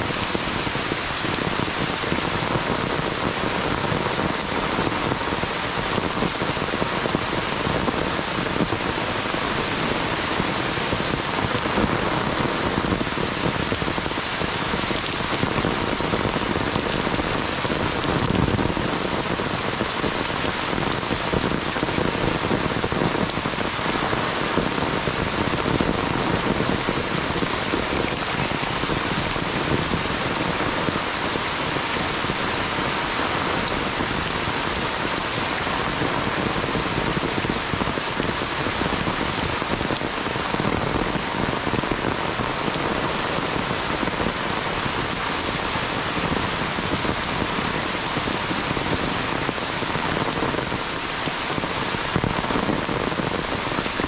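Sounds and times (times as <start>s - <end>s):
heavy rain on leaves and path: 0.0s - 54.0s.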